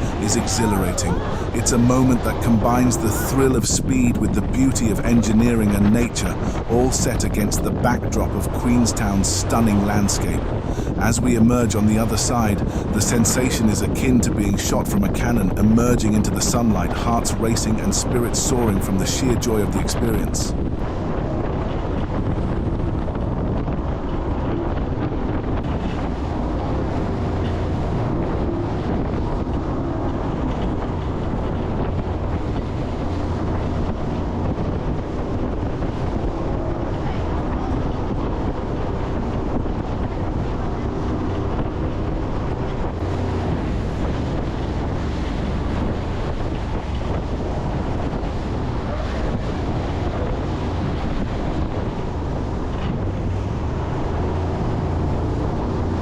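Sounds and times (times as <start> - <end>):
jet boat engine and water rushing: 0.0 - 56.0
wind buffeting microphone: 0.0 - 56.0.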